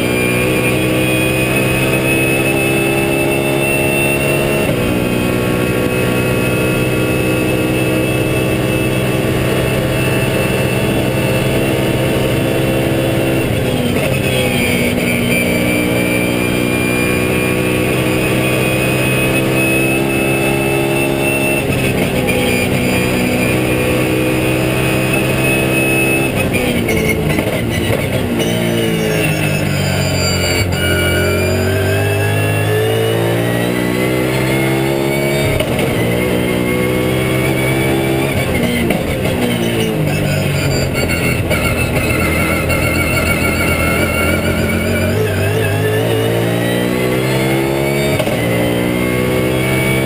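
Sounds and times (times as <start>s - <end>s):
racing engine at high revs: 0.0s - 50.0s.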